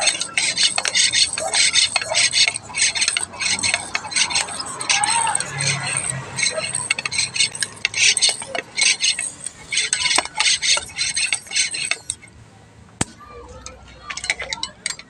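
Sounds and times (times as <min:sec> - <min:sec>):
scraping and rubbing on bicycle tyre: 0:00.0 - 0:12.3.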